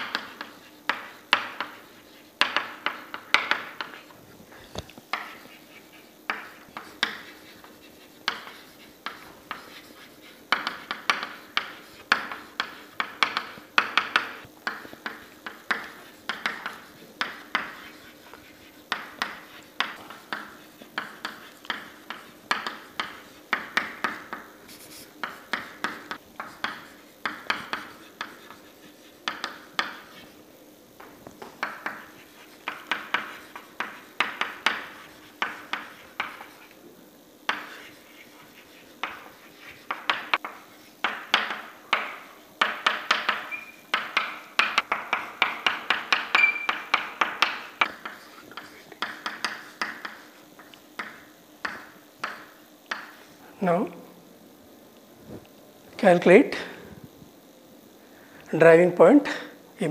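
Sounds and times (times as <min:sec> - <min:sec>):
chalk tapping and scratching: 0:00.0 - 0:53.4.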